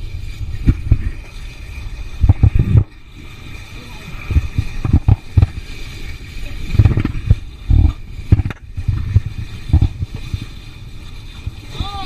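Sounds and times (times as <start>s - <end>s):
hiss of wind and water: 0.0s - 12.0s
wind buffeting microphone: 0.0s - 12.0s.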